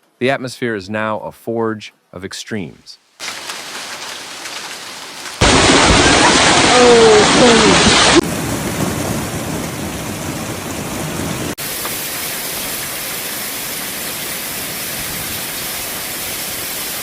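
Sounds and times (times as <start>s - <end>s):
heavy rain falling: 3.2s - 17.0s.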